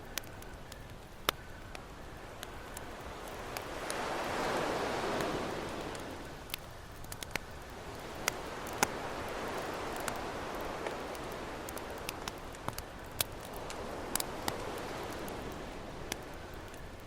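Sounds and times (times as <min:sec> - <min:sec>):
campfire crackling and popping: 0:00.0 - 0:17.0
ocean surf: 0:00.0 - 0:17.0.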